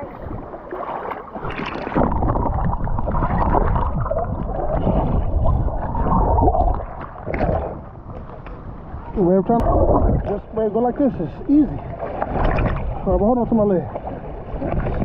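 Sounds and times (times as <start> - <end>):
seawater sloshing and gurgling: 0.0 - 15.0.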